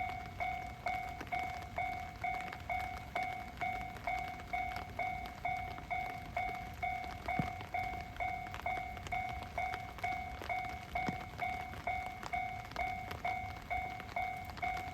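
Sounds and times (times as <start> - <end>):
level crossing warning bell: 0.0 - 14.9.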